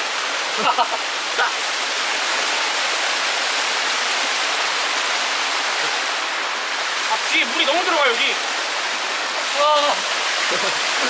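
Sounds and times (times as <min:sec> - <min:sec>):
waterfall pouring over rocks: 0:00.0 - 0:11.0.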